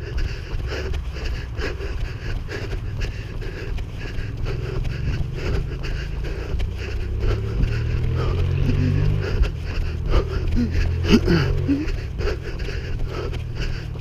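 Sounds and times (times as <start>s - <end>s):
running footfalls thudding: 0.0s - 14.0s.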